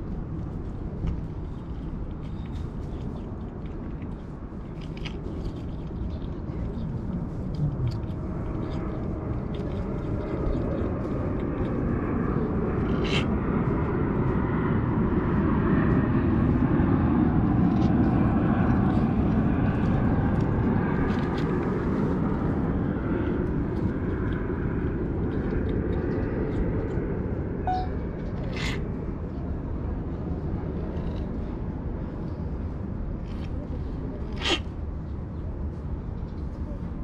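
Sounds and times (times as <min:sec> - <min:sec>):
aircraft rumble passing: 0:00.0 - 0:37.0.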